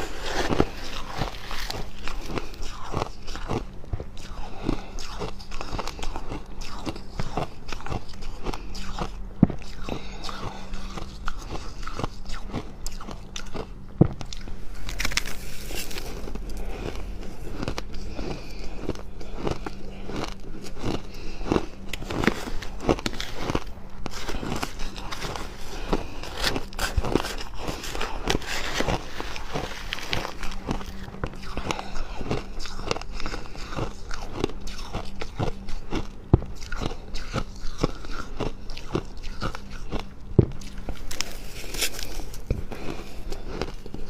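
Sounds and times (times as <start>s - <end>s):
person crunching frost: 0.0s - 44.0s.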